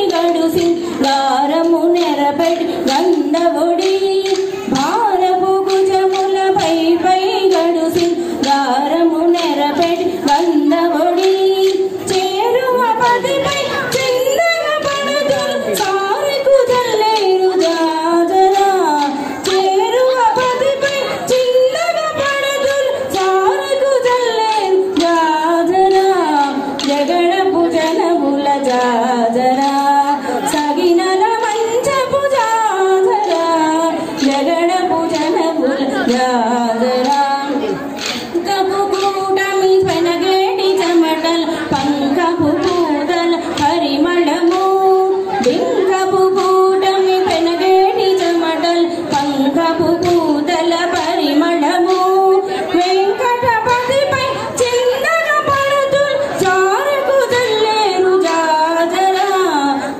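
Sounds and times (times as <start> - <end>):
steady percussive beat: 0.0 - 59.9
women singing folk song: 0.0 - 59.9.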